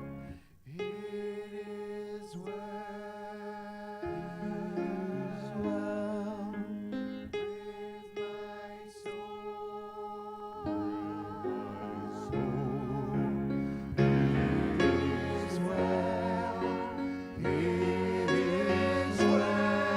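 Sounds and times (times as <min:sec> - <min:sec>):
worship music with singing: 0:00.0 - 0:19.9.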